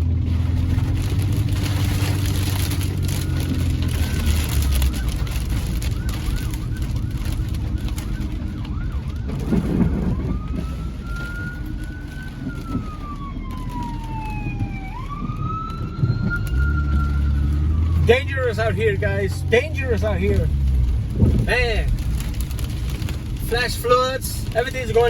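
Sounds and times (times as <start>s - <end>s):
emergency vehicle siren: 0.0s - 25.0s
steady low rumble: 0.0s - 25.0s.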